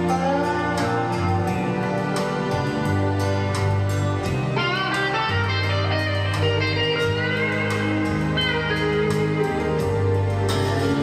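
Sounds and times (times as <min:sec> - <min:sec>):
guitar bending notes: 0:00.0 - 0:11.0
steady bass notes: 0:00.0 - 0:11.0.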